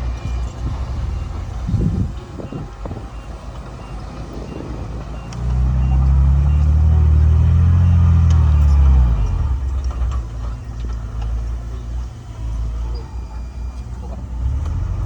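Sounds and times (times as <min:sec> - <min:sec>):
bulldozer diesel engine revving: 0:00.0 - 0:15.0.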